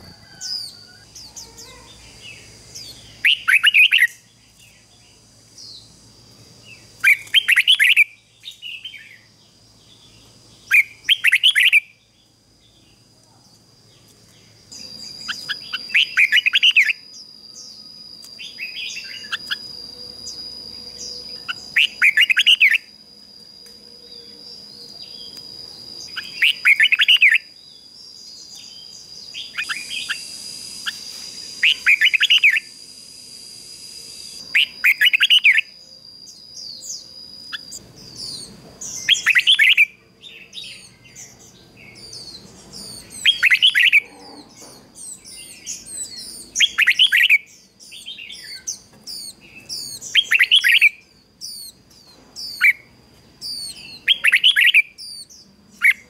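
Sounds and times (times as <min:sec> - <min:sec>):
bulbul singing: 0:00.0 - 0:56.0
soft bird chirps: 0:00.0 - 0:56.0.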